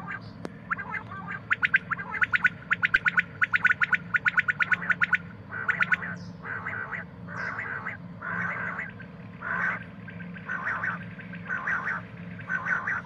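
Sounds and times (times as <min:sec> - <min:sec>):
faint low hum: 0:00.0 - 0:13.0
quail calling: 0:00.0 - 0:13.0.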